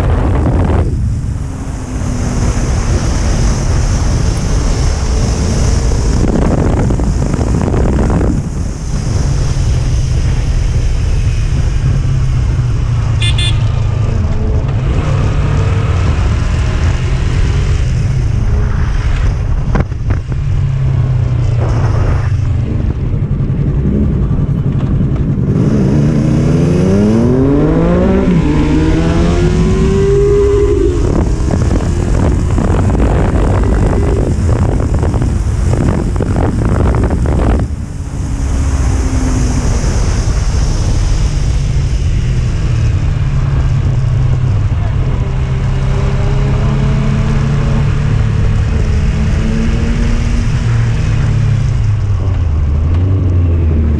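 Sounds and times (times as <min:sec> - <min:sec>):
motorcycle engine accelerating: 0:00.0 - 0:53.9
wind rush: 0:00.0 - 0:53.9.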